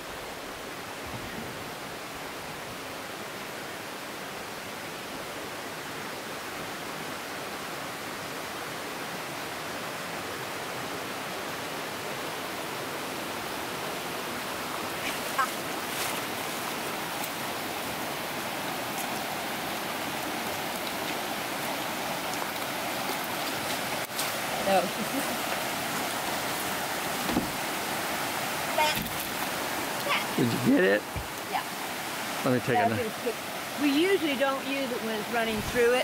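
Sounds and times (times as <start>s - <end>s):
creek flowing over rocks: 0.0s - 36.0s.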